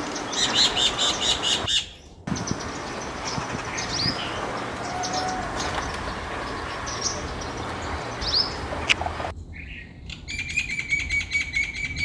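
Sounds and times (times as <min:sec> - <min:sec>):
garden background noise: 0:00.0 - 0:11.9
birds chirping: 0:00.0 - 0:12.0.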